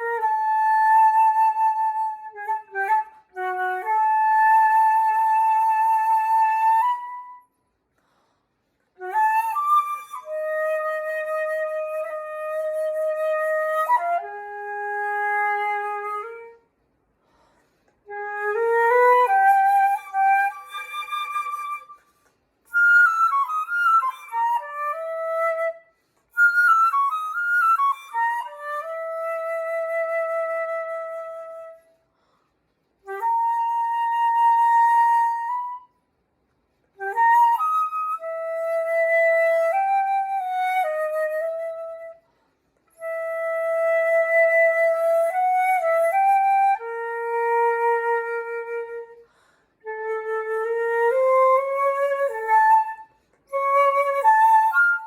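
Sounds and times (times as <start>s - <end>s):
solo flute: 0.0s - 55.0s.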